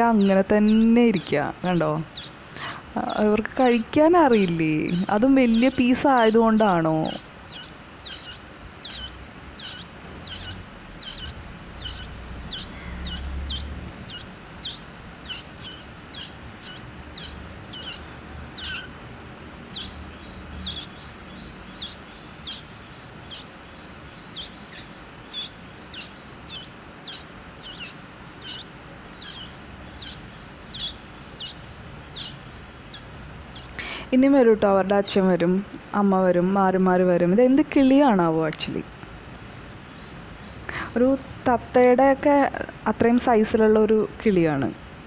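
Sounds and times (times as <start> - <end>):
nestlings begging chirps: 0.0 - 38.8, 39.4 - 44.6.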